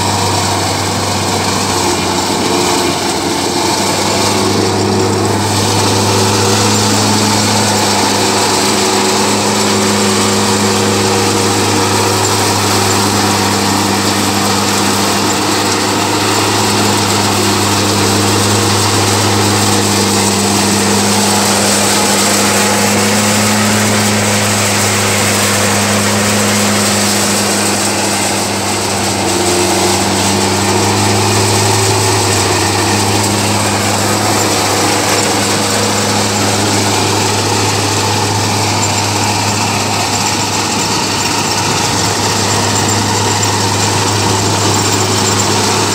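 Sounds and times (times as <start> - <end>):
chaff rushing through machine: 0.0 - 45.9
tractor engine drone: 0.0 - 45.9.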